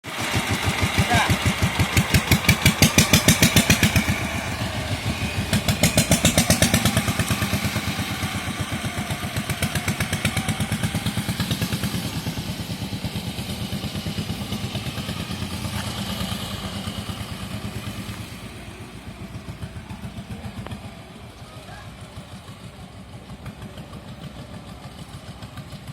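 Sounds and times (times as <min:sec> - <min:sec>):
diesel engine chugging: 0:00.0 - 0:25.9.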